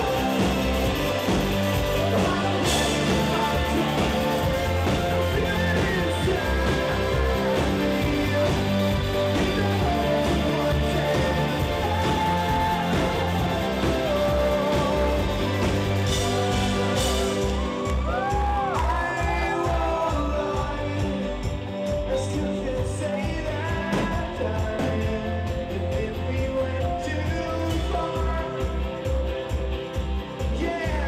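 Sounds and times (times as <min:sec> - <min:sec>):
person singing: 0:00.0 - 0:29.4
drums: 0:00.0 - 0:31.0
guitar: 0:00.0 - 0:31.0.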